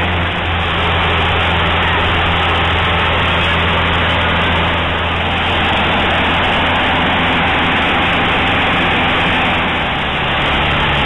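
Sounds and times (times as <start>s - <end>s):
airflow rushing: 0.0s - 11.0s
airplane engine and propeller droning: 0.0s - 11.0s.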